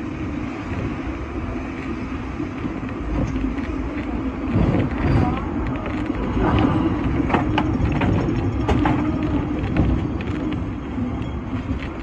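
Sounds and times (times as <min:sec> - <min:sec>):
tram rumbling: 0:00.0 - 0:12.0
wheels clicking: 0:00.0 - 0:12.0.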